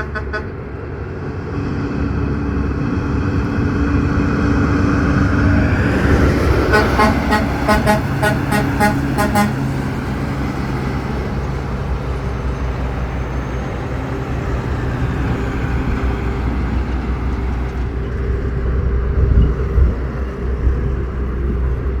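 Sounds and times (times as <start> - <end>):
road and wind noise: 0.0 - 22.0
vehicle engine drone: 0.0 - 22.0.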